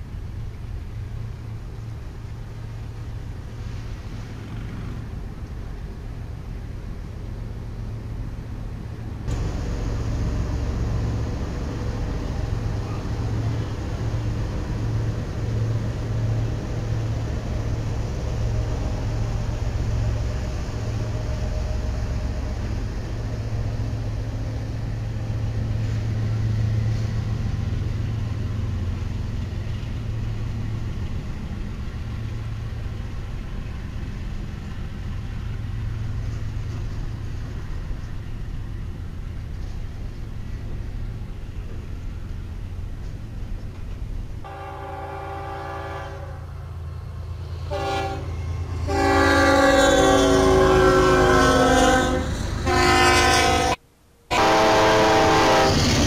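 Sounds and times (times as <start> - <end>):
diesel train rumbling by: 0.0 - 56.0.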